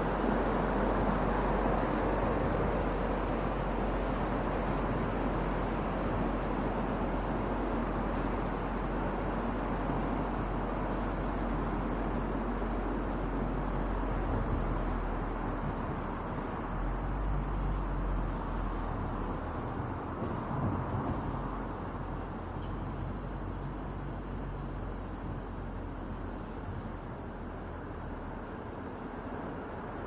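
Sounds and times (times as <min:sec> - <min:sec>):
wind noise: 0:00.0 - 0:27.0
low road rumble: 0:00.0 - 0:30.0.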